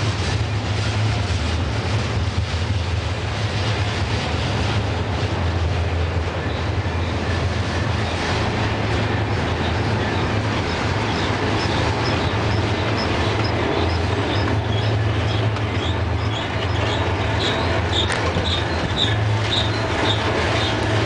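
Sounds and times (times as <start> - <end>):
steel wheels clattering on rails: 0.0 - 21.0
train rolling past rumble: 0.0 - 21.0.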